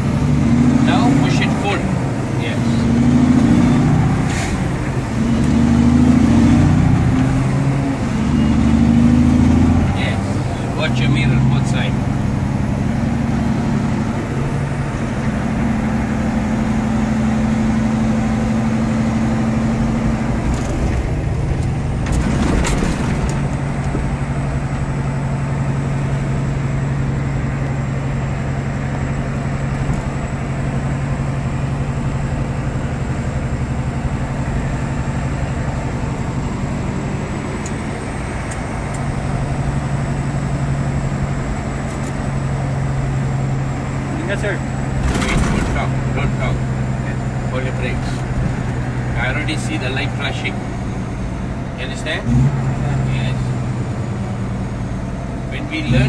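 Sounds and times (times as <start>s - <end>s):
truck engine drone: 0.0s - 56.0s.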